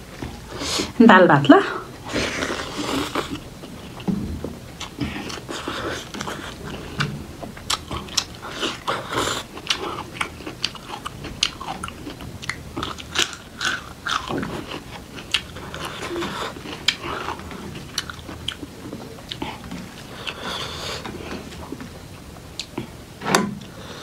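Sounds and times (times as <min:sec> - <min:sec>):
person chewing and crunching food: 0:01.8 - 0:23.0.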